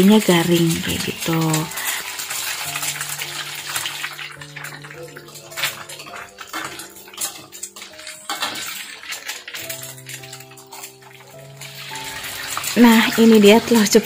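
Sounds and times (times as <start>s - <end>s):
egg sizzling in hot oil: 0.0s - 14.0s
soft background music: 0.0s - 14.0s
metal spatula scraping wok: 0.6s - 14.0s.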